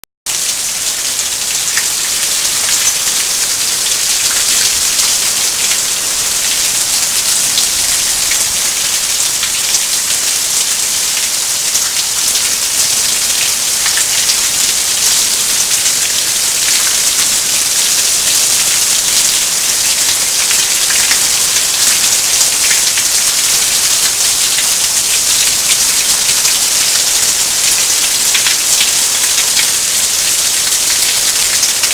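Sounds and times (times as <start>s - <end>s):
heavy rain and hail: 0.3s - 31.9s.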